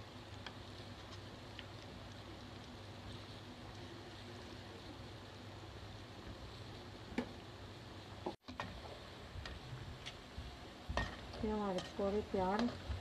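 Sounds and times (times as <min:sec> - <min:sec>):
deep-frying sizzle: 0:00.0 - 0:13.0.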